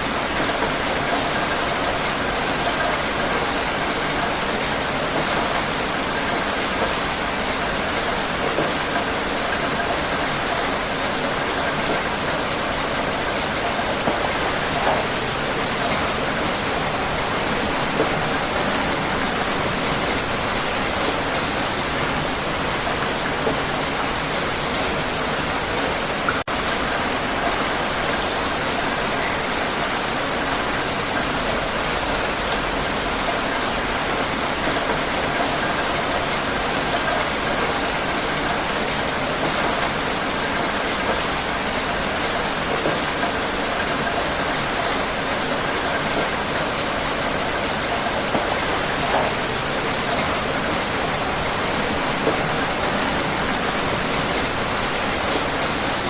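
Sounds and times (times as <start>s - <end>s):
heavy rain falling: 0.0s - 56.0s
raindrop patter: 0.1s - 56.0s.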